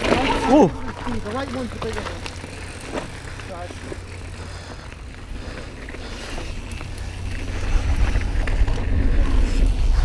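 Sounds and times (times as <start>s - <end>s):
bike ticks and knocks: 0.0s - 9.0s.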